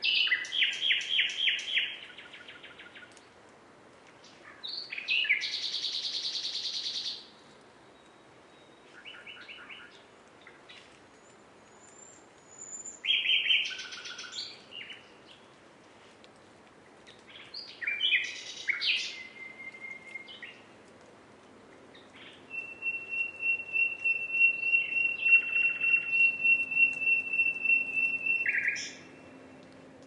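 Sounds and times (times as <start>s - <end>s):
nightingale singing: 0.0s - 3.2s, 4.2s - 15.5s, 17.2s - 20.7s, 21.9s - 29.4s.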